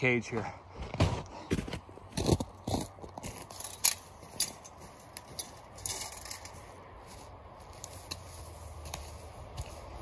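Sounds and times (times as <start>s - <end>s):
footsteps on dry pine needles: 1.6s - 10.0s.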